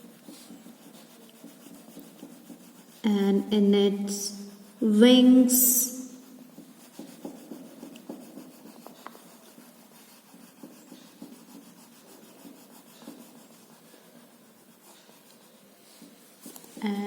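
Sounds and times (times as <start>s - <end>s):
crayon scratching on paper: 0.0s - 17.0s.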